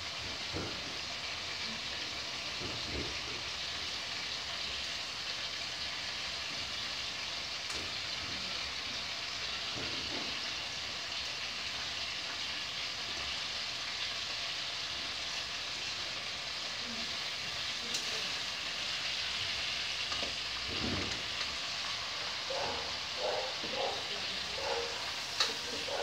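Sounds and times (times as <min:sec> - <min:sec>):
chicken sizzling in a pot: 0:00.0 - 0:26.0.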